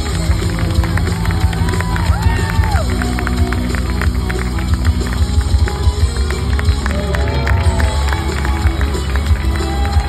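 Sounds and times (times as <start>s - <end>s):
loud music with pulsing bass: 0.0s - 10.0s.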